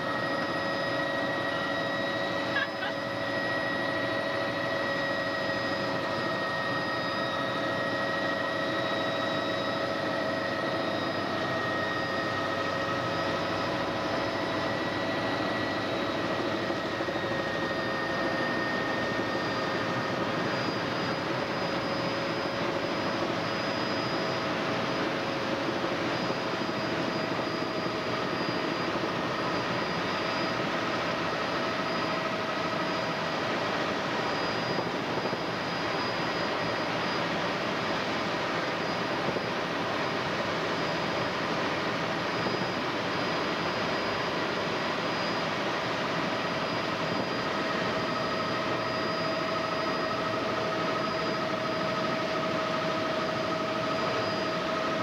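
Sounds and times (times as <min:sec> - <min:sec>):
helicopter engine and rotor noise: 0:00.0 - 0:55.0
steady whining tones: 0:00.0 - 0:55.0.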